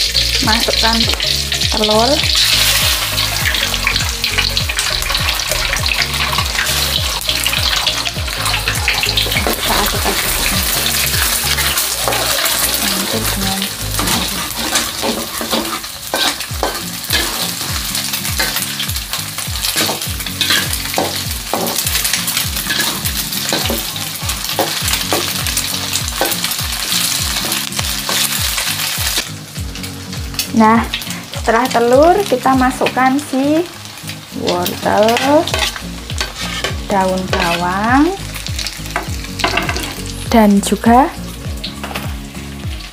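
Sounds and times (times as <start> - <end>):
spatula scraping wok: 0.0 - 29.3, 30.3 - 31.6, 32.2 - 40.2
eggs sizzling in hot oil: 0.0 - 42.9.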